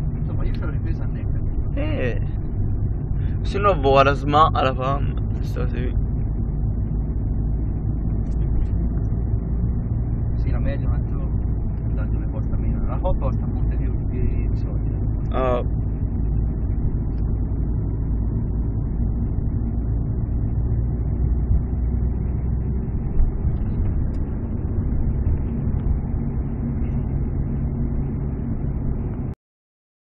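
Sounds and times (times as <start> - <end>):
car interior road and engine noise: 0.0 - 29.4.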